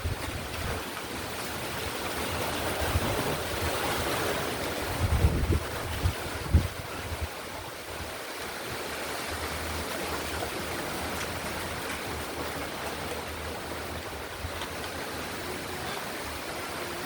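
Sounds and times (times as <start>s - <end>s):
rain pouring: 0.0s - 17.0s
wind buffeting microphone: 0.0s - 17.0s.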